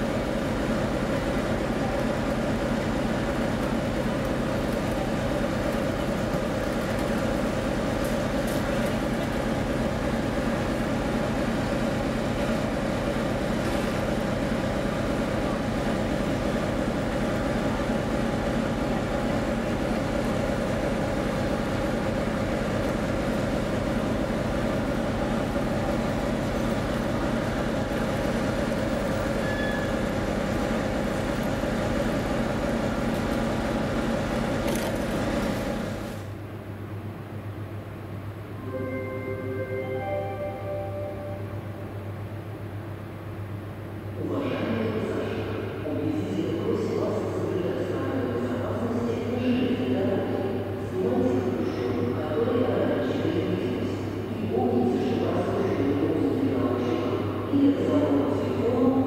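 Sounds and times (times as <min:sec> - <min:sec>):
diesel locomotive engine idling: 0:00.0 - 0:49.1.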